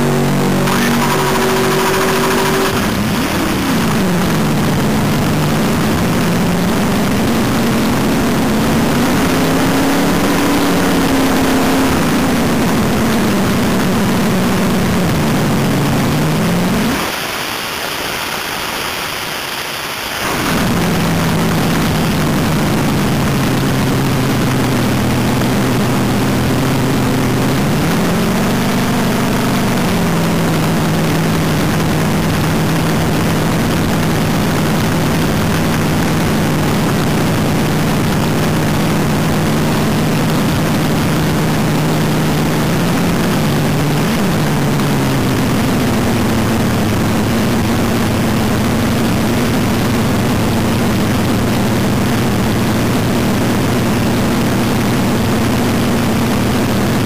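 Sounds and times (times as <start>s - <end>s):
dragster engine running: 0.0s - 17.0s, 20.2s - 57.0s.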